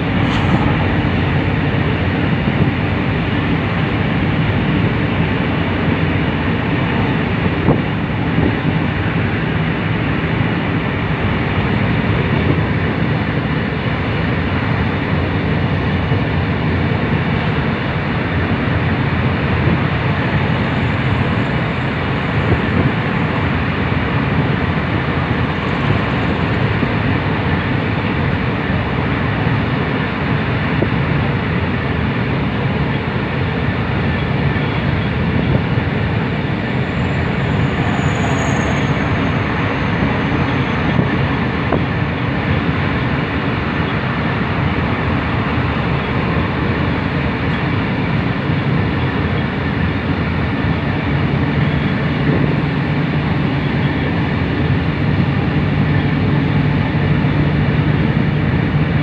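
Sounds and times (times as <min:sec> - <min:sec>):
train rumbling at speed: 0:00.0 - 0:59.0.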